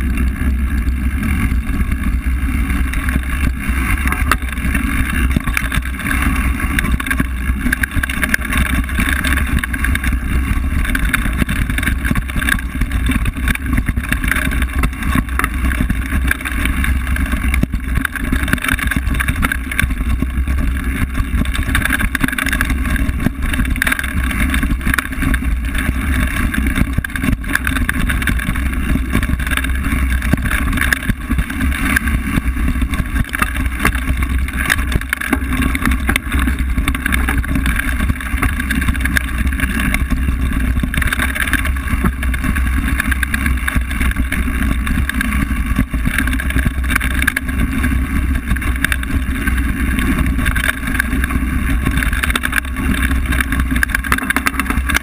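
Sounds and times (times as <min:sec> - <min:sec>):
bike knocks and rattles: 0:00.0 - 0:55.0
wind and tyres rumbling on dirt: 0:00.0 - 0:55.0.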